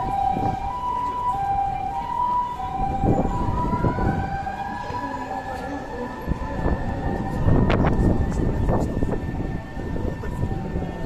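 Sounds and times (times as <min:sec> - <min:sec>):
rising siren wail: 0:00.0 - 0:11.0
traffic: 0:00.0 - 0:11.0
two-tone siren: 0:00.0 - 0:11.0.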